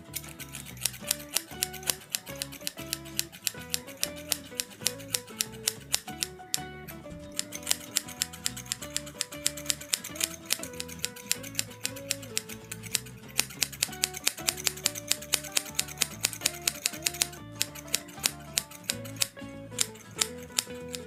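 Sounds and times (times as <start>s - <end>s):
scissors snipping hair: 0.0s - 6.7s, 7.3s - 21.0s
background music: 0.0s - 21.0s.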